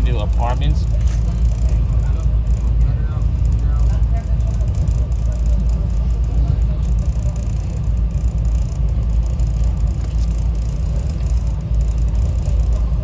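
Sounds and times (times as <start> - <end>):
train rumbling on board: 0.0 - 13.0.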